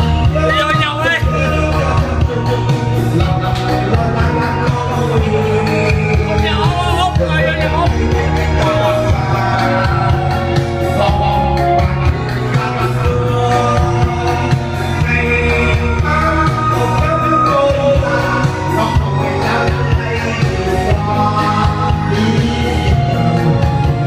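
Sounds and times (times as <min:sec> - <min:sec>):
music backing with beat and bass: 0:00.0 - 0:24.0
person singing: 0:00.0 - 0:24.0.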